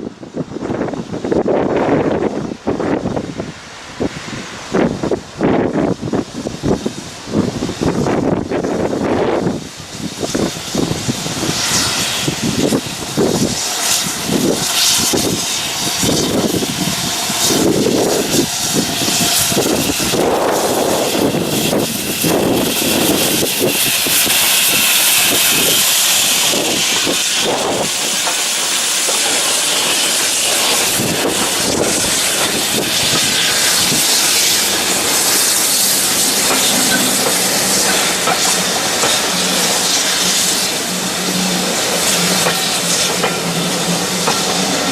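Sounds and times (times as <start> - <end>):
steam hissing: 0.1 - 44.9
steam locomotive chuffing: 0.2 - 44.9.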